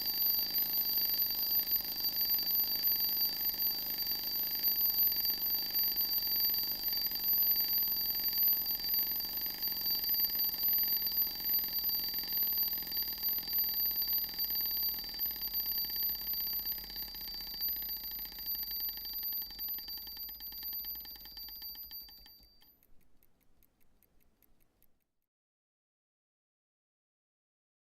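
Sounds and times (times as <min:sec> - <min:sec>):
alarm clock bell ringing: 0:00.0 - 0:22.7.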